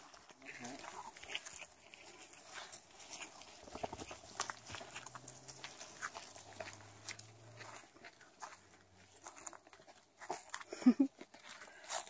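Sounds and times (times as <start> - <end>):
footsteps through undergrowth: 0.0 - 12.0.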